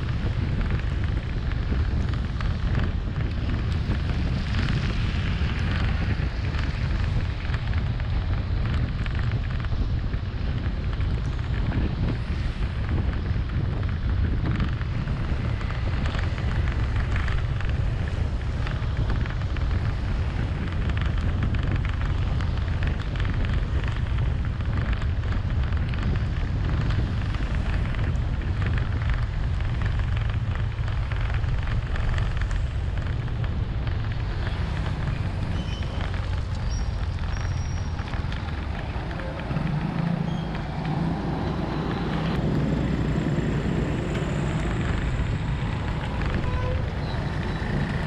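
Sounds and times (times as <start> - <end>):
rain and tyre spray hiss: 0.0 - 48.0
wind and road noise: 0.0 - 48.0.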